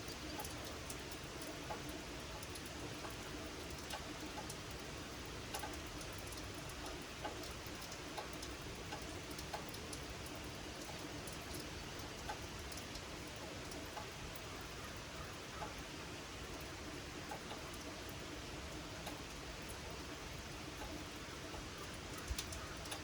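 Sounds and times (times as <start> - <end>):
gentle rain falling: 0.0 - 23.0
raindrops ticking close by: 0.0 - 23.0.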